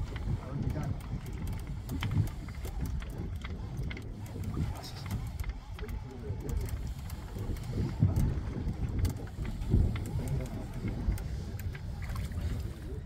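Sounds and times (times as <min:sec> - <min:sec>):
sea rumbling: 0:00.0 - 0:13.0
wind rumbling: 0:00.0 - 0:13.0.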